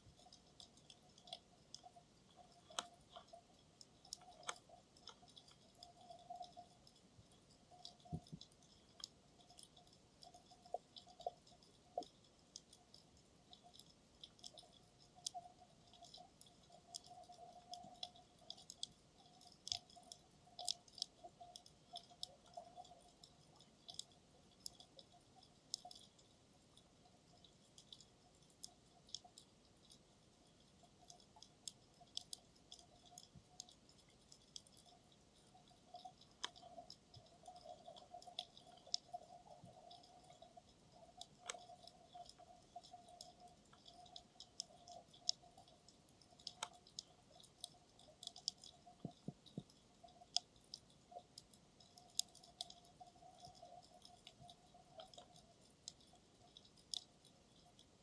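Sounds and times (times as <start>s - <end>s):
underwater clicks and crackles: 0.0s - 58.0s.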